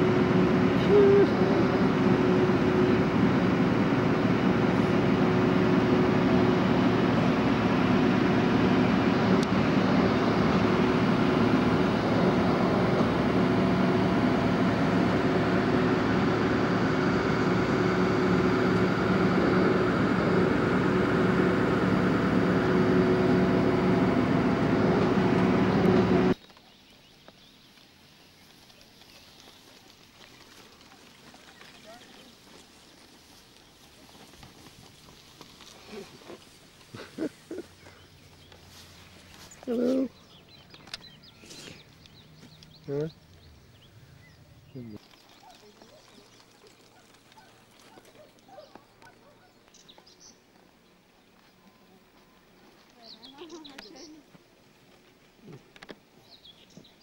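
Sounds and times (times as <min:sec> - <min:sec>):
ferry engine droning: 0:00.0 - 0:26.4, 0:28.4 - 0:54.2.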